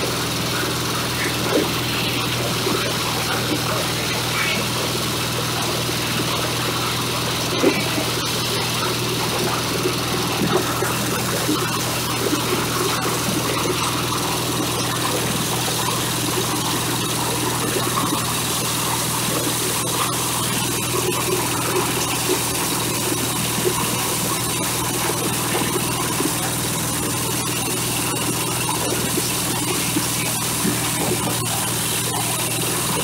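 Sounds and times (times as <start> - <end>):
corn sheller rattling: 0.0 - 33.0
engine hum: 0.0 - 33.0.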